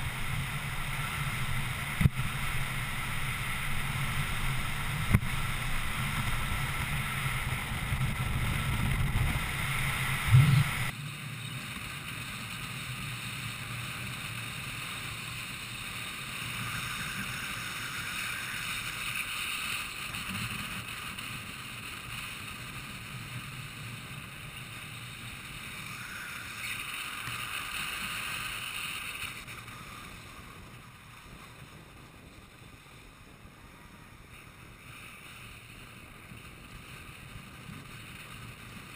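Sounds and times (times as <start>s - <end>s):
inline skates rolling on asphalt: 0.0s - 38.9s
wind rushing on microphone: 0.0s - 38.9s.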